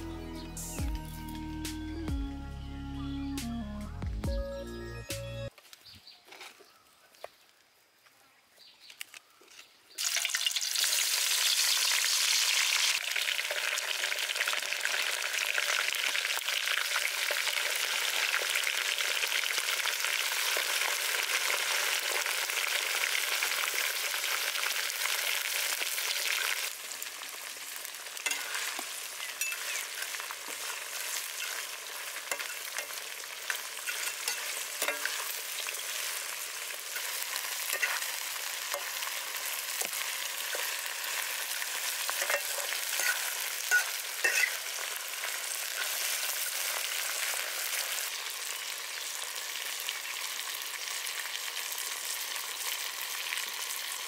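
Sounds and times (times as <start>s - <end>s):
food sizzling in hot oil: 10.0s - 54.0s.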